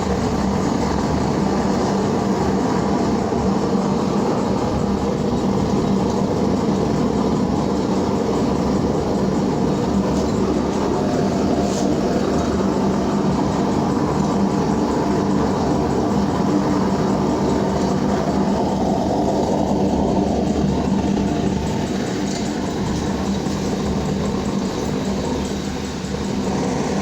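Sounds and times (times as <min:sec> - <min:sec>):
furnace roaring: 0:00.0 - 0:27.0.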